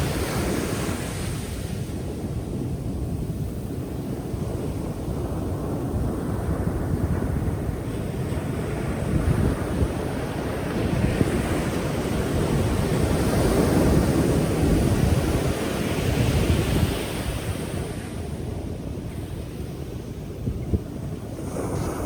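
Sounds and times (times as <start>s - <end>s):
ocean waves breaking: 0.0s - 2.1s, 4.0s - 22.0s
wind on microphone: 0.0s - 22.0s.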